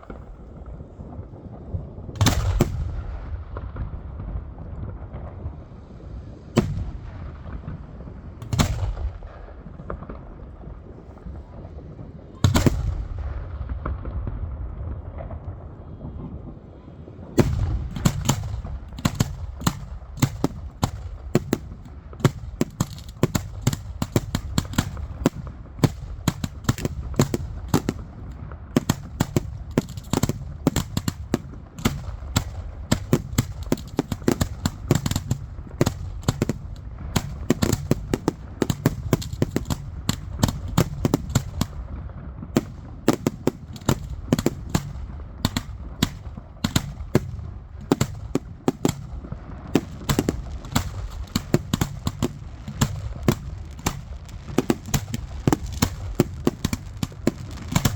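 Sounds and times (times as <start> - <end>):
fireworks bangs and cracks: 0.0 - 57.9.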